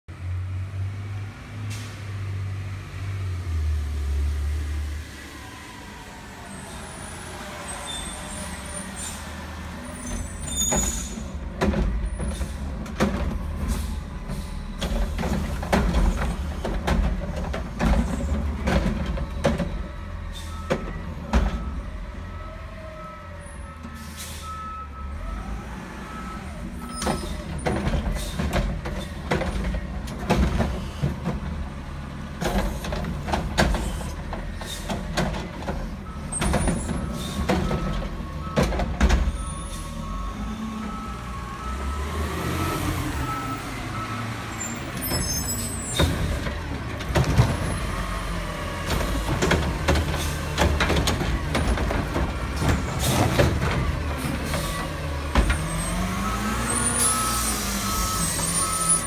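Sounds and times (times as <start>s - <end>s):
diesel truck engine rumbling: 0.1s - 59.0s.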